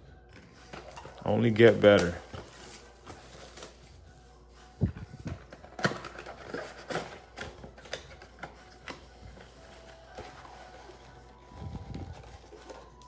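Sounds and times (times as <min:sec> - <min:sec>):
cardboard box and card packs opened: 0:00.4 - 0:13.0.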